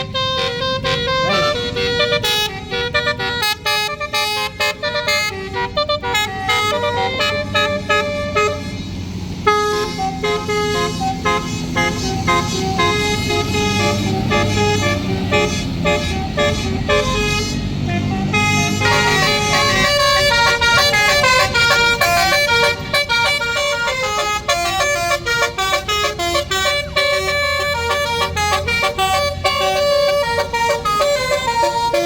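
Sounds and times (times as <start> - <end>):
low engine rumble: 0.0 - 32.0
musical bus horn melody: 0.0 - 32.0.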